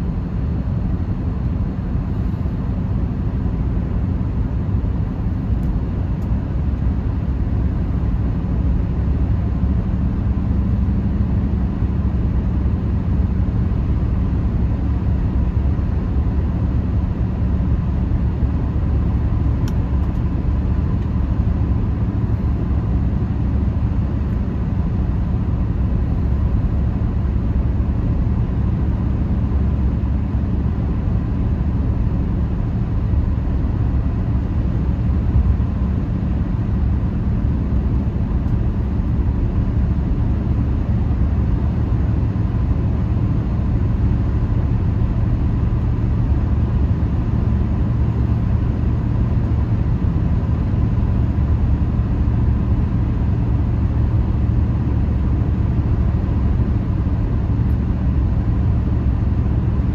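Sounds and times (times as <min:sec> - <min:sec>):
car tyre and engine rumble: 0:00.0 - 0:59.9.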